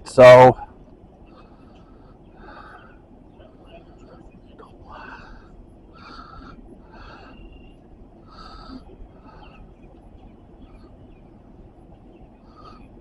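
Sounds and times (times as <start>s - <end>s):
low outdoor rumble: 0.0s - 13.0s
bird harsh calls: 1.3s - 13.0s.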